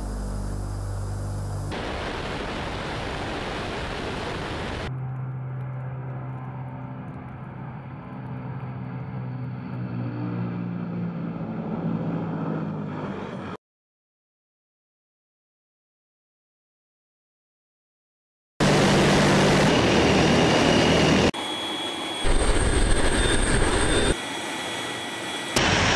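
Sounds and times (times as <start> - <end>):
turboprop engines droning: 0.0 - 13.6, 18.6 - 25.9.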